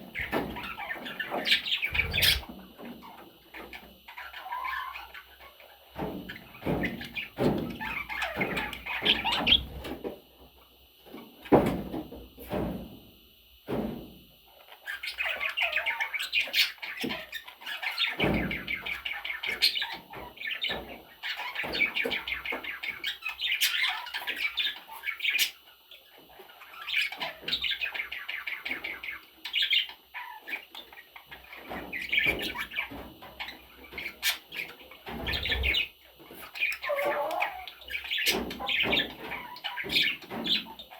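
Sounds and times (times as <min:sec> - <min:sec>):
budgerigars chattering and warbling: 0:00.0 - 0:10.0, 0:14.5 - 0:40.9.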